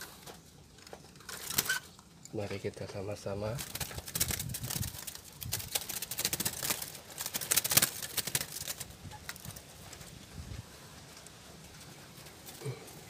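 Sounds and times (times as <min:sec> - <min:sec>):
bird moving against cage bars: 0:00.0 - 0:02.6, 0:03.5 - 0:13.0
bamboo cage rattling: 0:00.0 - 0:13.0.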